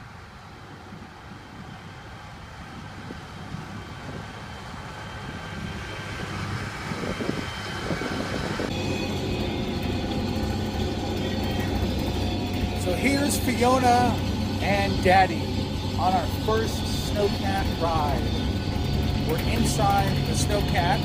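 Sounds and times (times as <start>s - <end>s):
snowcat engine rumbling: 0.0s - 21.0s.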